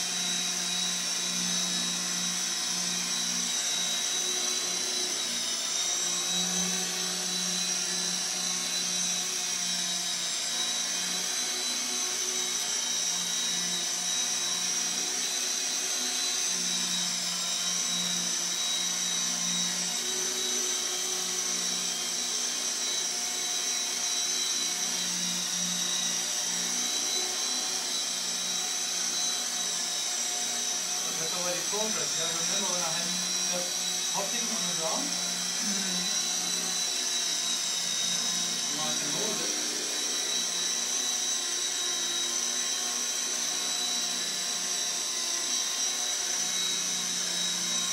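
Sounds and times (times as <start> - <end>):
rc helicopter motor whine: 0.0 - 47.9.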